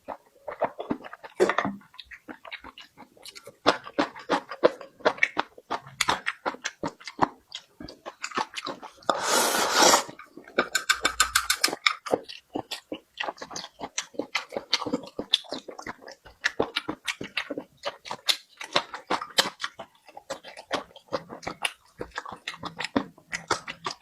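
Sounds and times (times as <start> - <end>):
chewing and lip-smacking: 0.0 - 9.2, 10.1 - 24.0.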